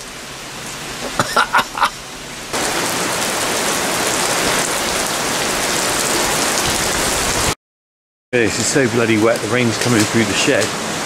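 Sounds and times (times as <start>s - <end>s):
heavy rain on concrete: 0.0s - 7.6s, 8.4s - 11.0s.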